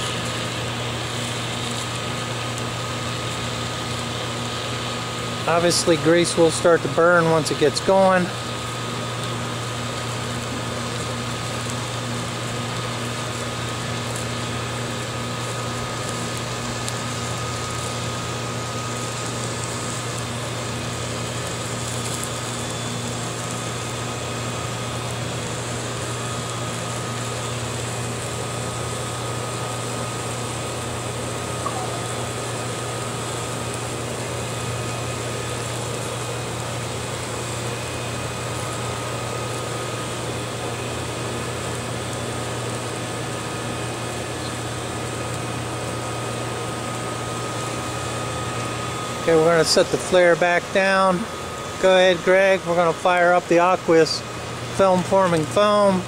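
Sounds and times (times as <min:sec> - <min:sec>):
motor humming: 0:00.0 - 0:56.0
thin steady whine: 0:00.0 - 0:56.0.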